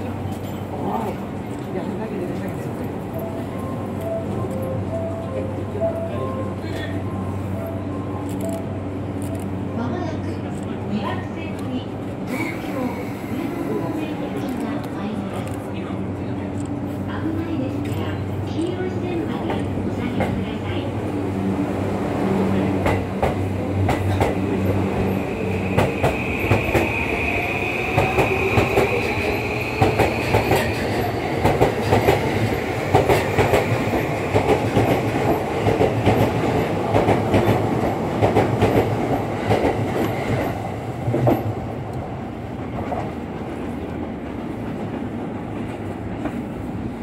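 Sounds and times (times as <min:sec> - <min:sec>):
electric train running past: 0:00.0 - 0:47.0.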